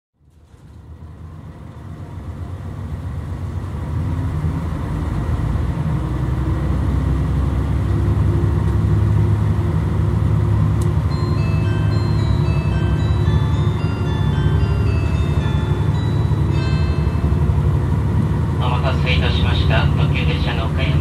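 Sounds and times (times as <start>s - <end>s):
diesel train rumbling: 0.2s - 21.0s.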